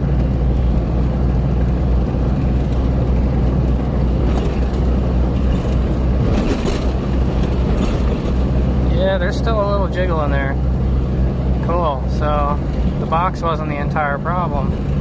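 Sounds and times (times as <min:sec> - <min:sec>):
engine drone: 0:00.0 - 0:15.0
tyre road noise: 0:00.0 - 0:15.0.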